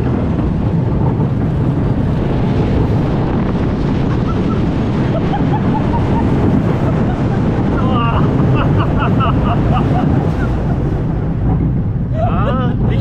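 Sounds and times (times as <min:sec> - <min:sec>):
roller coaster rumble: 0:00.0 - 0:13.0
wind buffeting microphone: 0:00.0 - 0:13.0.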